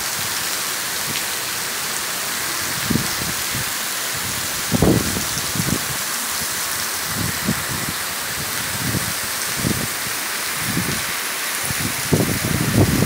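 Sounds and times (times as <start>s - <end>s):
heavy rain on street and rooftops: 0.0s - 13.0s.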